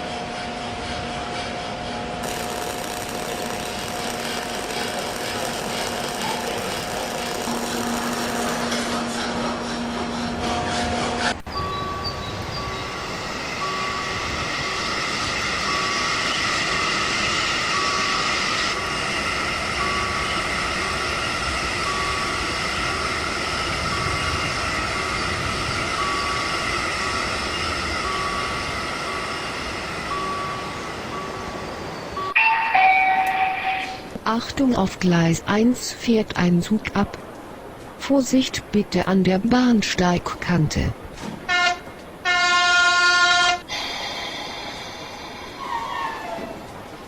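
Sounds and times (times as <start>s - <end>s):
train running: 0.0s - 47.0s.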